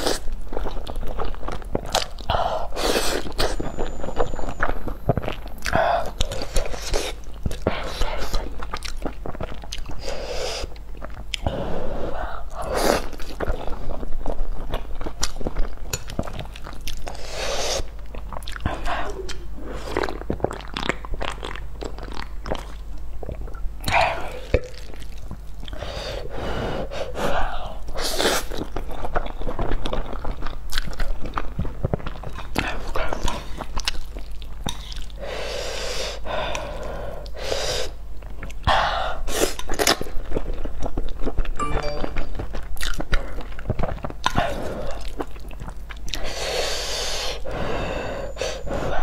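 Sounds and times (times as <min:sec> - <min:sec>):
wet chewing: 0:00.0 - 0:11.6, 0:12.4 - 0:25.8, 0:27.6 - 0:35.2, 0:42.2 - 0:49.0.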